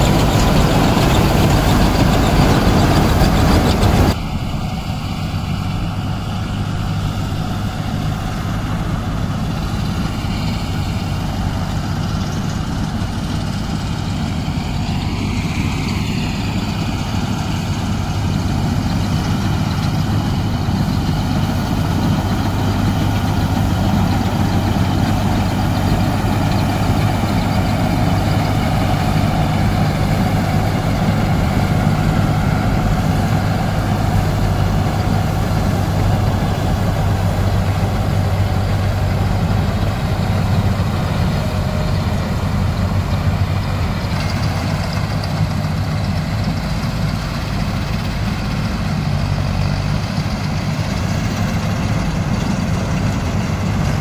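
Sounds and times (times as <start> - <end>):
rough machine noise: 0.0 - 54.0
tractor diesel engine droning: 0.0 - 54.0.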